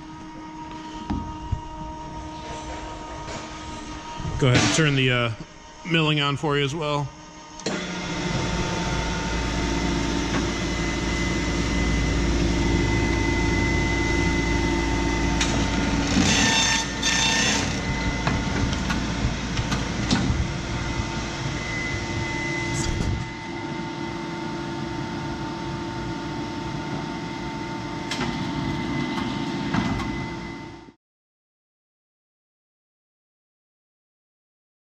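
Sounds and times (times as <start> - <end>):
machine rumble with thin whine: 0.0 - 31.0.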